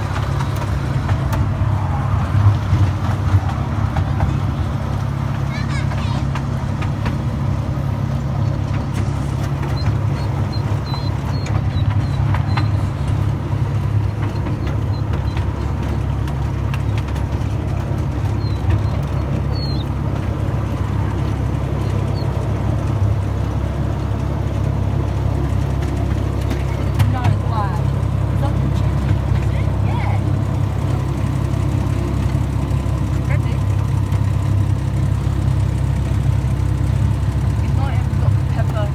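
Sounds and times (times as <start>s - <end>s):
miniature train rumbling: 0.0s - 38.9s.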